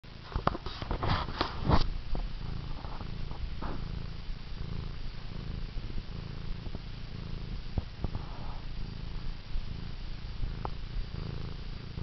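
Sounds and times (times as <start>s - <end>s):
cat purring: 0.1s - 12.0s.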